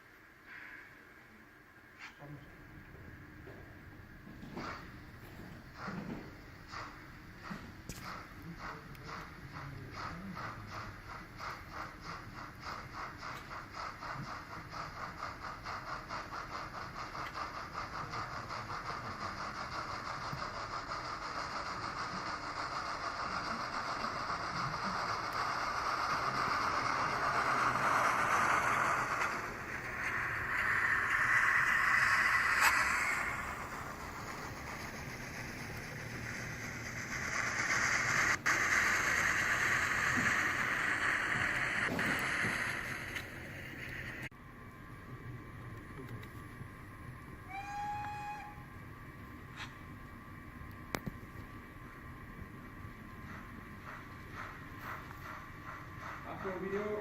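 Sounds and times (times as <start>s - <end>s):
model steam locomotive chuffs: 4.3s - 44.3s, 45.0s - 57.0s.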